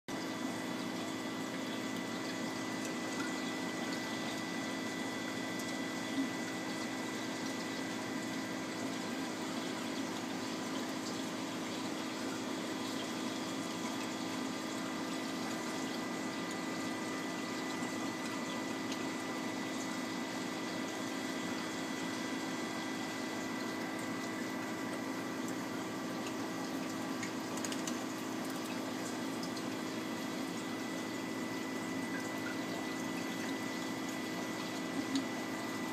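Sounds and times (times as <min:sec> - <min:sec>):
aquarium pumps humming: 0:00.1 - 0:35.9
water circulating: 0:00.2 - 0:35.9.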